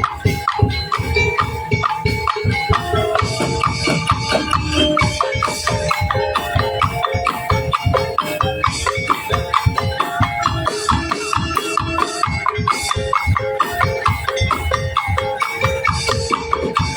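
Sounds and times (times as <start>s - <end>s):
struck bamboo and drums ensemble: 0.0s - 16.9s.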